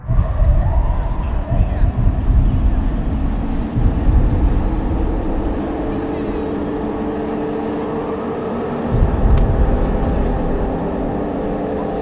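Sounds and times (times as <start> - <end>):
deep uneven rumbling: 0.0 - 12.0
steady droning hum: 0.0 - 12.0.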